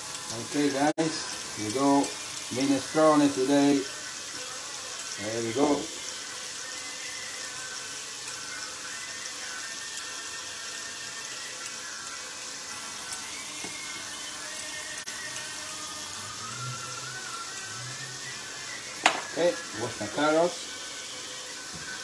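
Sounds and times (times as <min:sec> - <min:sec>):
onions sizzling in a pot: 0:00.0 - 0:22.0.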